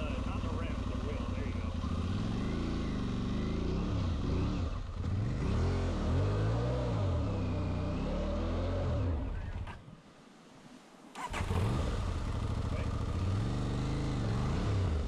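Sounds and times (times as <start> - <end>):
motorcycle engine revving: 0.0 - 9.6, 11.2 - 15.0.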